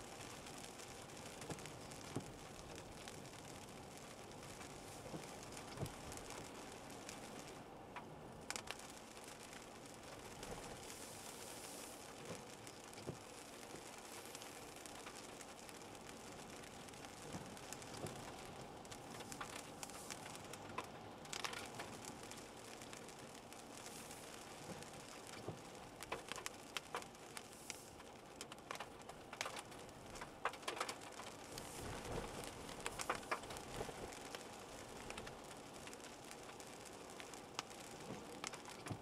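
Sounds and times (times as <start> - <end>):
light rain falling: 0.0 - 39.0
raindrops tapping: 0.0 - 39.0.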